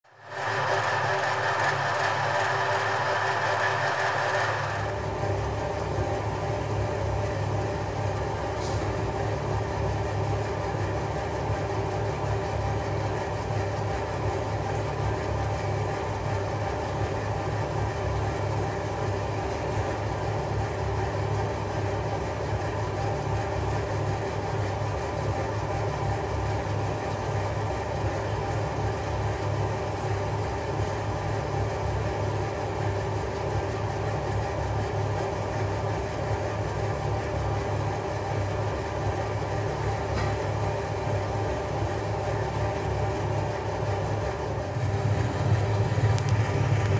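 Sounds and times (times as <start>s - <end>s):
machinery humming: 0.0s - 46.9s.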